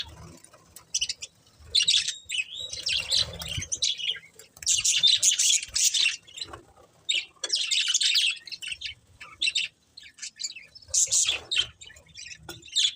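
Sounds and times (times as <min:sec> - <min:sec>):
budgerigars chirping: 0:00.9 - 0:12.9.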